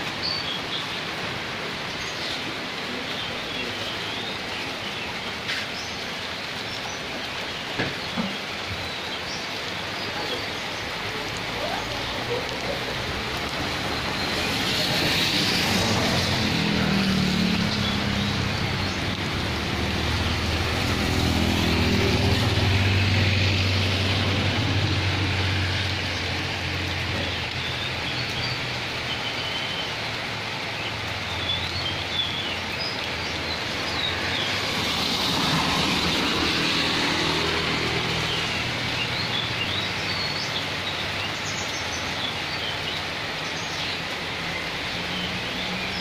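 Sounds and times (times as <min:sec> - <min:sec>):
steady rain falling: 0:00.0 - 0:46.0
vehicle passing on wet road: 0:00.0 - 0:46.0.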